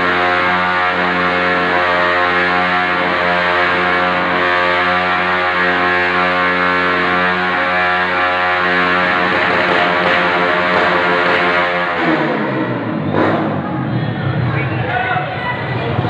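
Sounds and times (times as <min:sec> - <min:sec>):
motorcycle engine revving high: 0:00.0 - 0:14.8.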